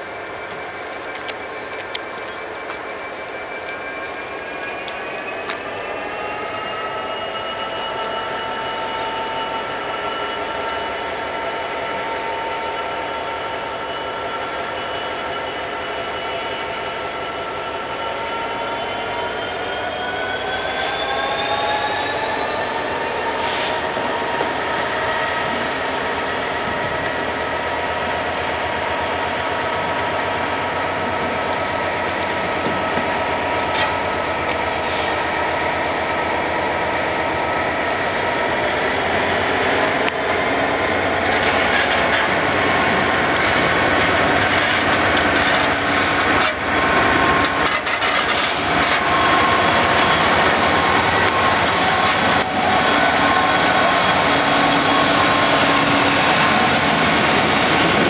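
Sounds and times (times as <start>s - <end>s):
diesel locomotive engine whining: 0.0s - 58.0s
train wheels on rails: 0.0s - 58.0s.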